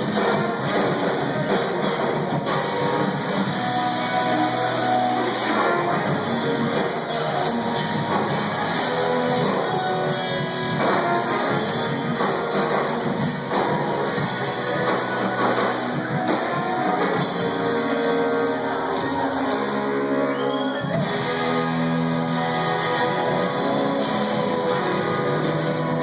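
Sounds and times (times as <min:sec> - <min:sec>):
guitar: 0:00.0 - 0:26.0
live rock band playing: 0:00.0 - 0:26.0.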